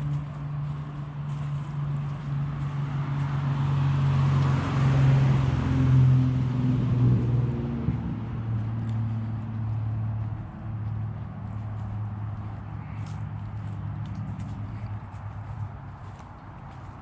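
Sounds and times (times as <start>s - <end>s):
passing vehicle: 0.0s - 17.0s.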